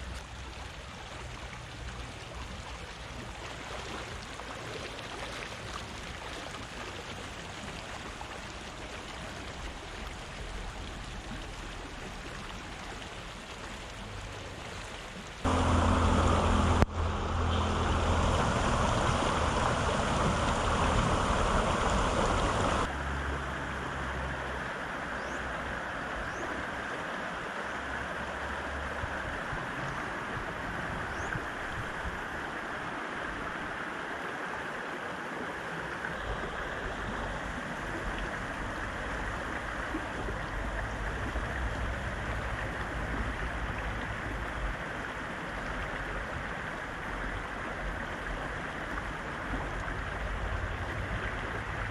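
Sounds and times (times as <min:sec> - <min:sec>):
river rushing: 0:02.8 - 0:51.9.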